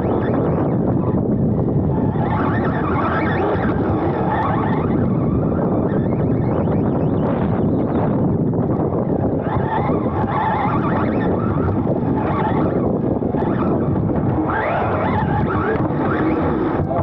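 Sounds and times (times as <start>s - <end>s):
electric motor whine: 0.0s - 17.0s
rush of tyres and wind: 0.0s - 17.0s.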